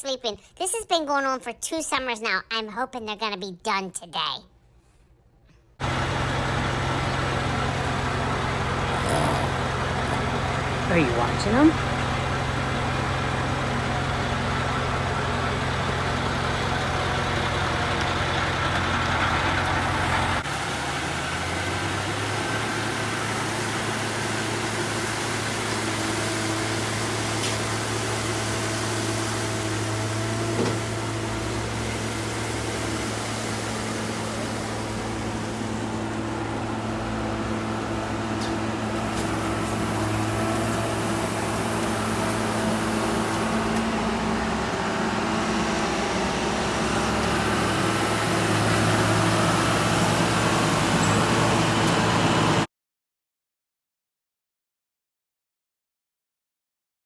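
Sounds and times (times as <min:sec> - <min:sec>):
construction truck engines running: 0:05.8 - 0:52.7.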